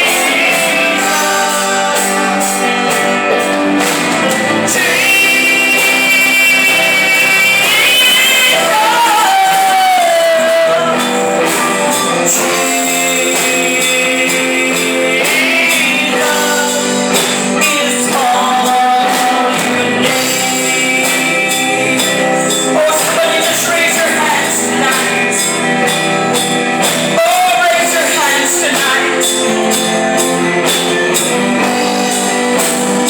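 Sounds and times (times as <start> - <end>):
band accompaniment: 0.0 - 33.0
steady high percussion: 0.0 - 33.0.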